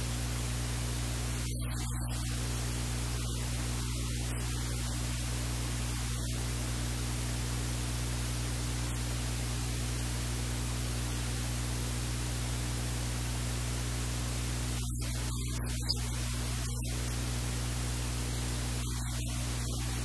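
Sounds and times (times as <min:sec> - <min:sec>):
constant hiss: 0:00.0 - 0:20.0
electrical hum: 0:00.0 - 0:20.0.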